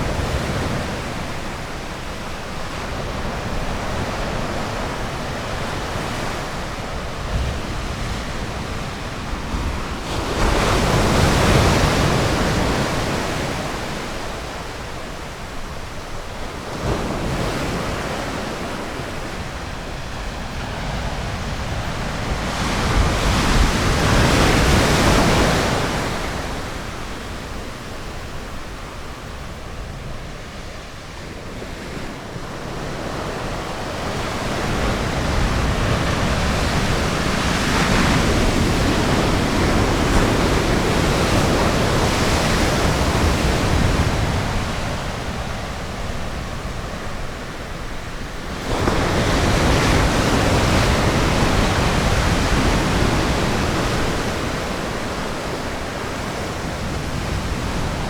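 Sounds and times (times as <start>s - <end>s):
ocean surf breaking on beach: 0.0s - 58.0s
wind on microphone: 0.0s - 58.0s.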